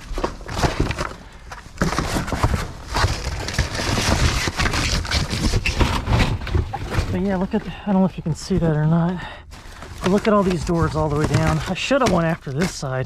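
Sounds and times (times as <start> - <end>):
scrap debris clattering and scraping: 0.0 - 13.0.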